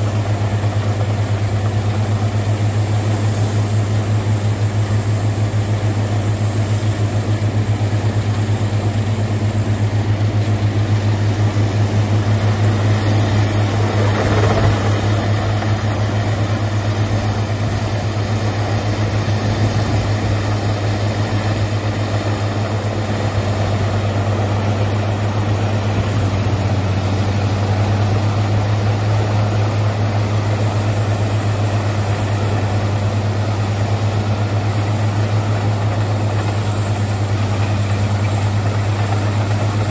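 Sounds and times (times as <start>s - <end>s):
diesel wood chipper droning: 0.0s - 39.9s.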